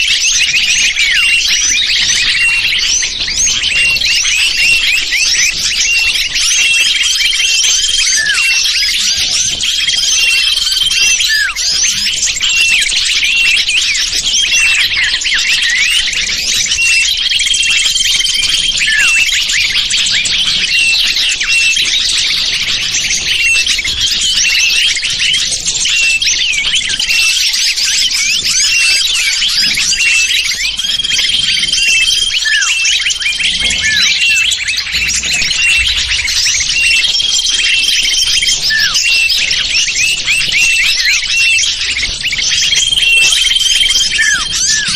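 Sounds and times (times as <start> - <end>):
small birds chirping chorus: 0.0 - 44.9.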